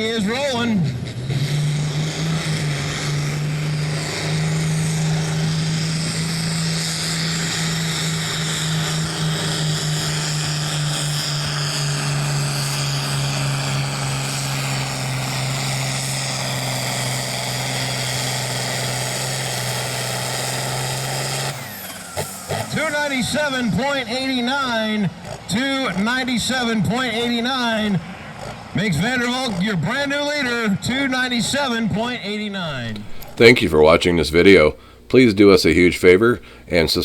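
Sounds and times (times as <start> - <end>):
tractor engine at full throttle: 0.0 - 37.0.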